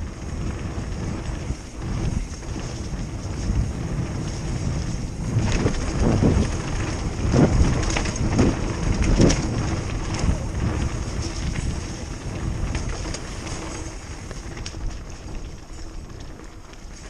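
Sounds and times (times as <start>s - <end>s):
bike rattles and clicks: 0.0s - 17.0s
wind buffeting microphone: 0.0s - 17.0s.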